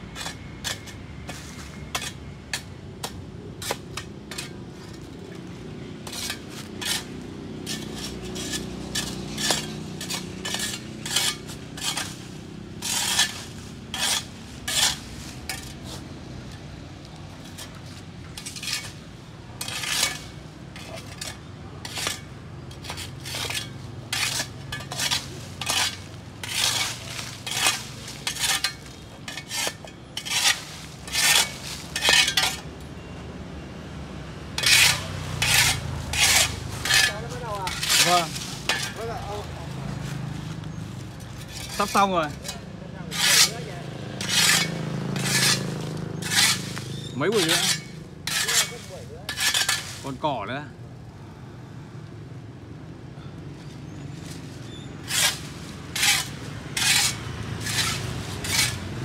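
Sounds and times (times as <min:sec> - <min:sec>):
metal tools scraping paving: 0:00.0 - 0:33.2, 0:34.5 - 0:50.7, 0:53.2 - 0:59.0.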